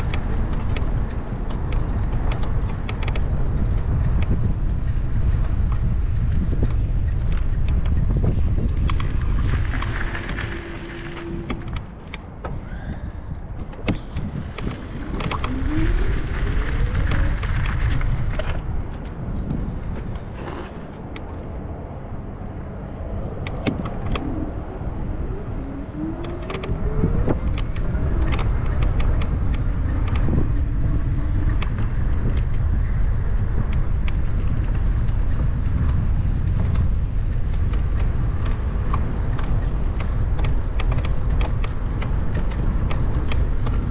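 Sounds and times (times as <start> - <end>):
tyres rumbling over paving: 0.0 - 21.1, 22.2 - 43.9
bicycle clicks and rattles: 0.0 - 21.5, 22.8 - 43.9
wind on microphone: 0.0 - 43.9.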